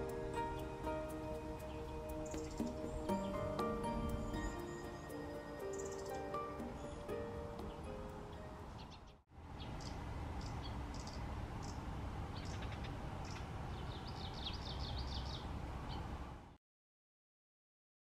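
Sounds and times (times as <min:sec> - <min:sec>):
warbler calling: 0:00.0 - 0:11.8, 0:12.4 - 0:16.0.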